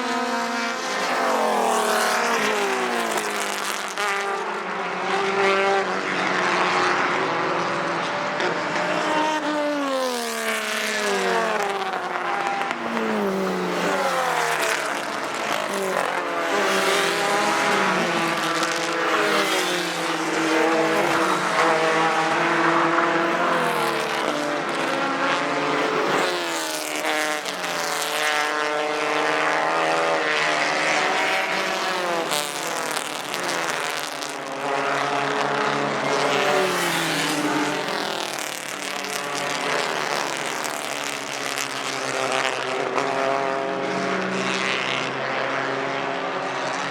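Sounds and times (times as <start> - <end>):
race car engines at high revs: 0.0 - 46.9.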